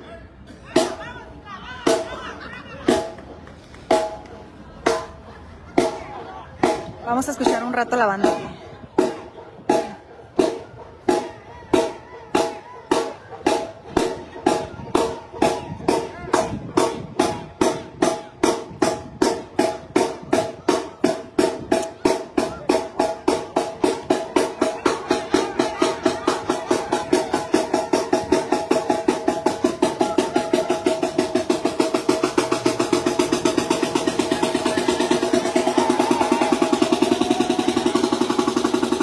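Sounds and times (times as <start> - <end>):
drum beat speeding up: 1.9 - 39.0.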